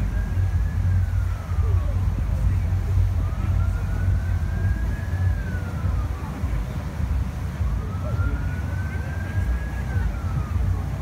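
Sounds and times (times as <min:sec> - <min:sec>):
low rumble: 0:00.0 - 0:11.0
siren wailing: 0:00.0 - 0:11.0.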